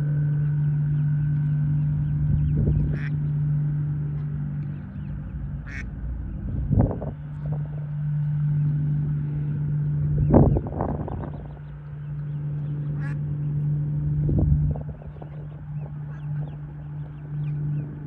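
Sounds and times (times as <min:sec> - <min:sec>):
steady low hum: 0:00.0 - 0:18.0
ducks quacking: 0:01.9 - 0:18.0.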